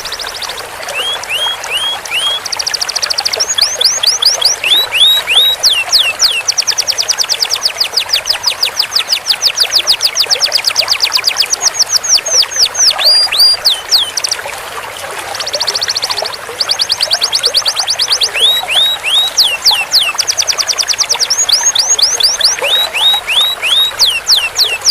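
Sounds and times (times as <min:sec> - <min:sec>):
canary trilling song: 0:00.0 - 0:14.4, 0:15.3 - 0:24.9.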